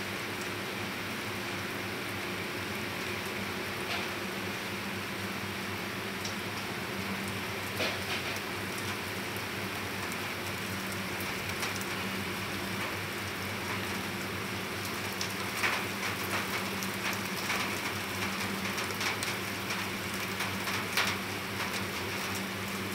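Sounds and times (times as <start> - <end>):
heavy rain on flat roof: 0.0 - 22.9
rain drops splashing in water: 0.0 - 22.9.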